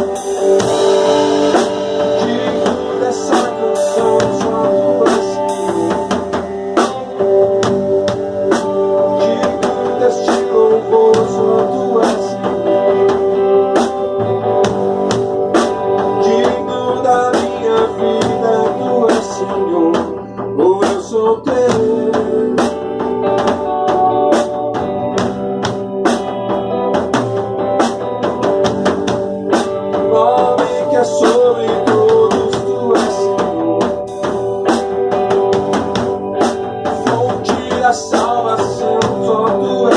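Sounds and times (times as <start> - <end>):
drum kit steady beat: 0.0 - 39.9
electric guitar playing: 0.0 - 39.9.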